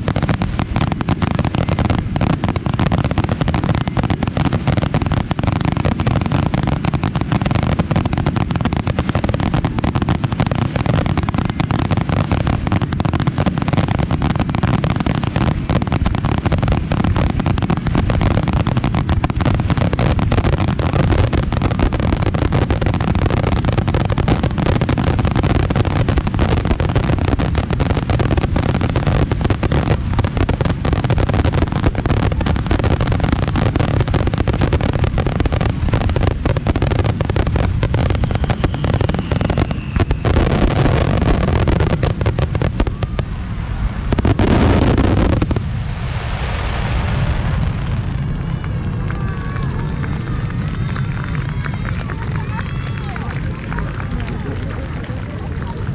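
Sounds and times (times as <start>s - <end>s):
fireworks bursting and crackling: 0.0s - 55.9s.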